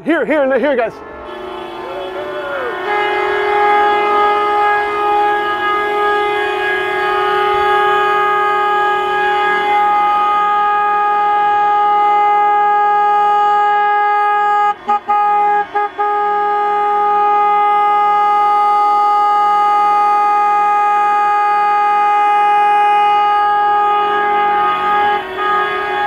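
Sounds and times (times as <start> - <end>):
boat horns blasting: 0.7 - 26.0.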